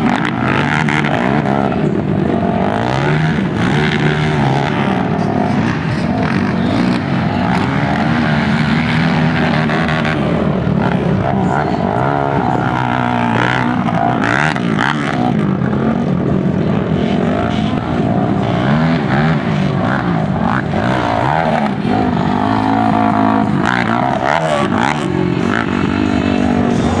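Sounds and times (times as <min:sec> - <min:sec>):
quad engines revving: 0:00.0 - 0:27.0.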